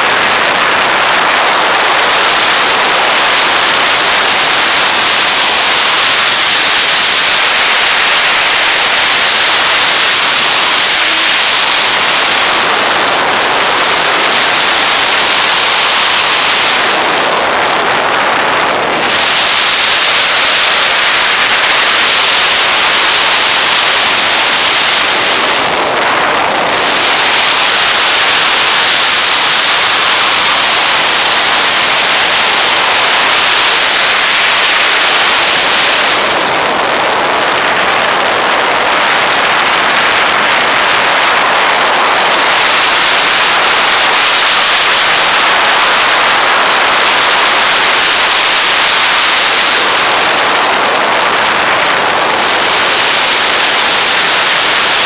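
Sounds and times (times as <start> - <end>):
wind rush over microphone: 0.0 - 55.0.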